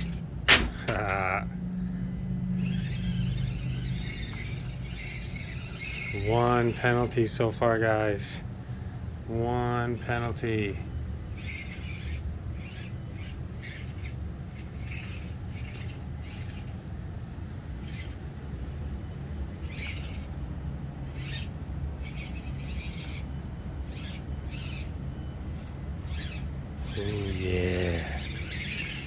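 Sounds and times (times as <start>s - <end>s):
small motor and gear bursts: 0.0s - 8.4s, 9.5s - 29.0s
steady low hum: 0.0s - 29.0s.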